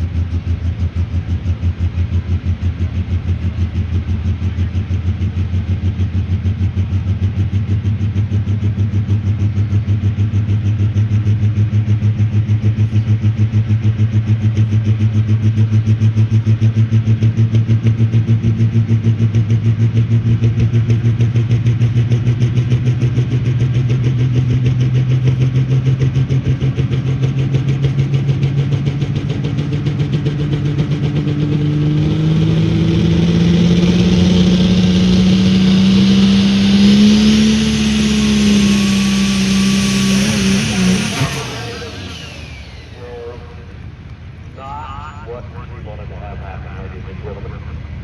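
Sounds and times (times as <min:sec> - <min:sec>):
truck engine revving: 0:00.0 - 0:48.0.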